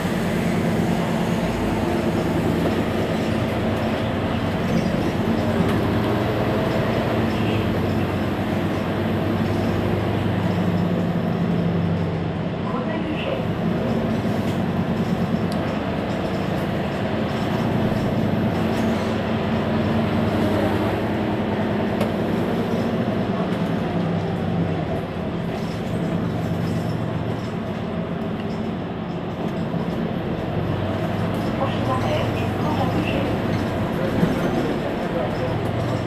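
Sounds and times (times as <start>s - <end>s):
bus engine idling: 0.0s - 36.0s.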